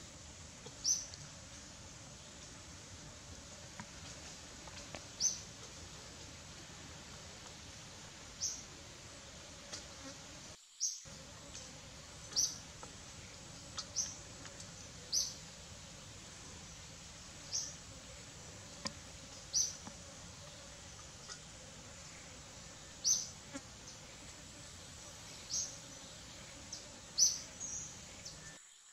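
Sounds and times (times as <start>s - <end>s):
faint background hum: 0.0s - 28.6s.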